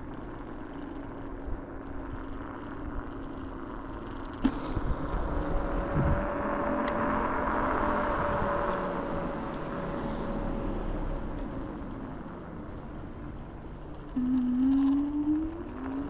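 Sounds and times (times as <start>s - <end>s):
electric motor whine: 0.0s - 16.0s
wind and road noise: 0.0s - 16.0s.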